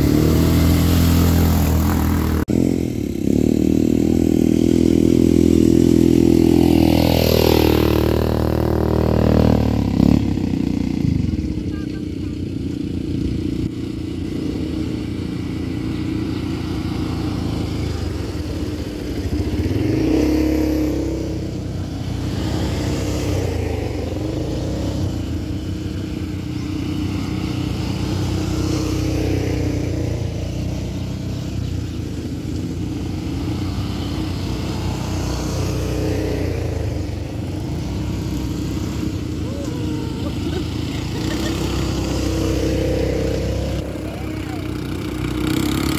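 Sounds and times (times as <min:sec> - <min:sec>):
quad bike engines passing: 0:00.0 - 0:45.9.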